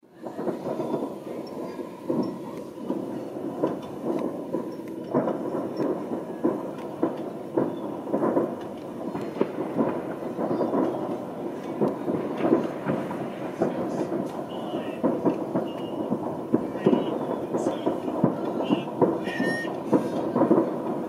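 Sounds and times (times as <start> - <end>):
distant fireworks bangs and pops: 0.1 - 21.0.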